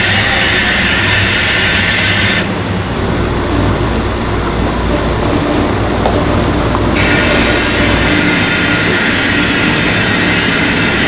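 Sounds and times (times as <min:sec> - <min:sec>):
high hiss: 0:00.0 - 0:11.0
hot oil sizzling and bubbling: 0:00.0 - 0:11.0
low machine rumble: 0:00.0 - 0:11.0.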